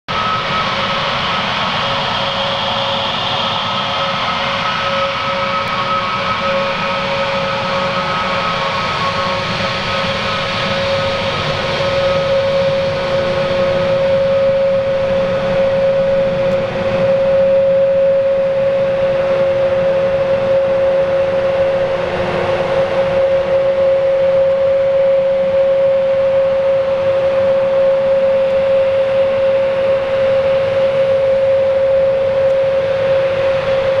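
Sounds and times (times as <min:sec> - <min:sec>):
jet engines whining while taxiing: 0:00.1 - 0:34.0.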